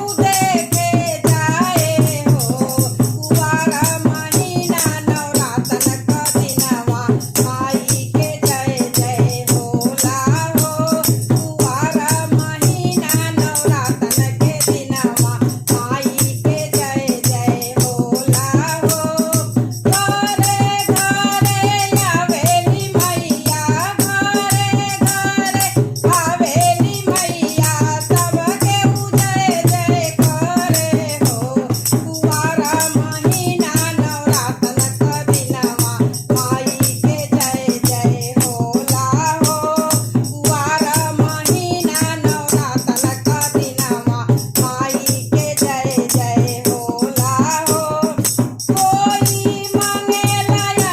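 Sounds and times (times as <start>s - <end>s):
rattle-like percussion beat: 0.0s - 50.9s
woman singing folk devotional song: 0.0s - 50.9s.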